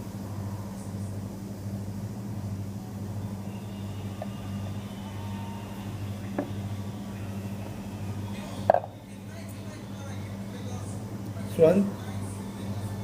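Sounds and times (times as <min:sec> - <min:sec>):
machine electric hum: 0:00.0 - 0:13.0.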